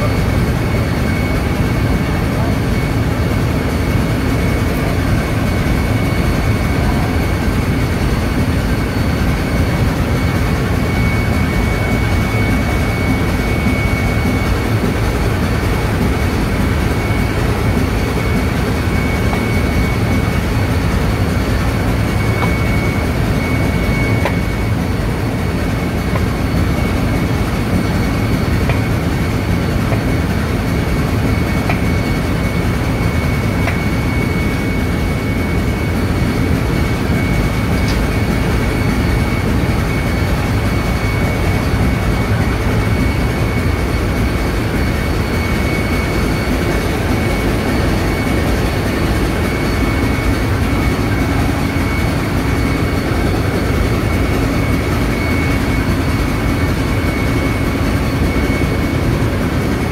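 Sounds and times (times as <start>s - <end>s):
constant high whine: 0.0s - 59.9s.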